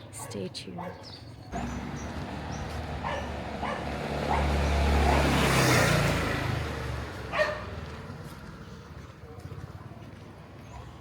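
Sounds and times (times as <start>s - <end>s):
vehicle passing by: 1.5s - 11.0s.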